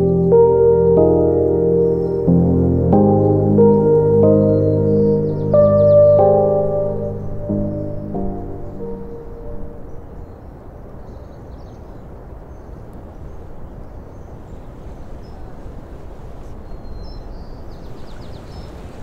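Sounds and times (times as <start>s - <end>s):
outdoor background noise: 0.0s - 19.0s
faint high bird chirps: 3.0s - 12.0s, 12.6s - 19.0s.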